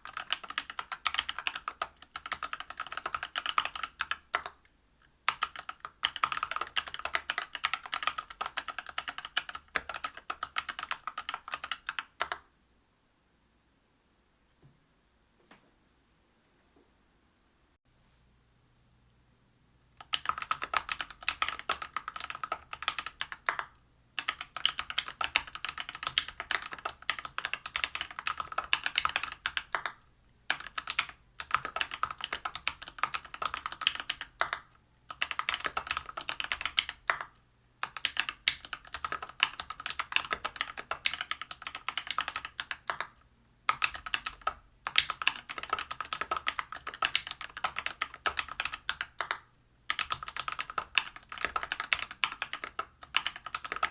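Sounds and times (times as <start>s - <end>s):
typing on mechanical keyboard: 0.0s - 4.6s, 5.3s - 12.4s, 20.0s - 53.9s.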